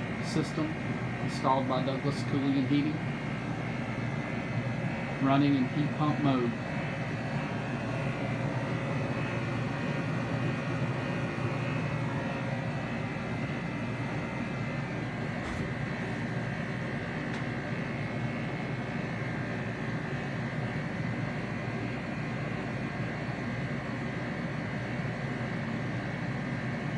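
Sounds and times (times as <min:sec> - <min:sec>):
heat pump humming and whooshing: 0:00.0 - 0:26.9.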